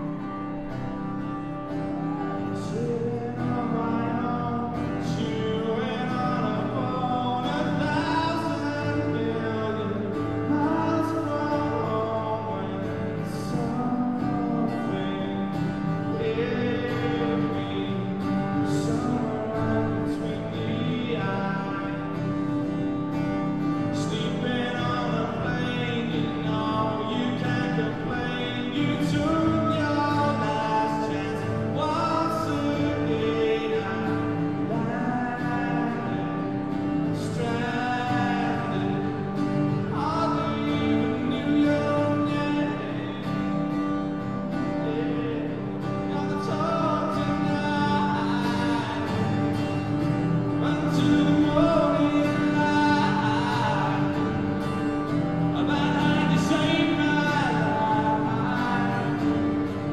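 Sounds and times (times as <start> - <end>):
man singing: 0.0 - 59.9
strummed acoustic guitar: 0.0 - 59.9.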